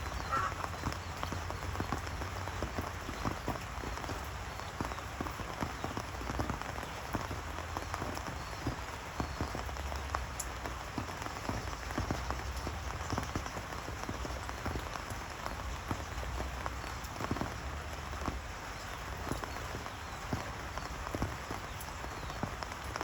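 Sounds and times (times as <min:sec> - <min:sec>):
rain falling: 0:00.0 - 0:23.0
raindrops ticking on surface: 0:00.0 - 0:23.0.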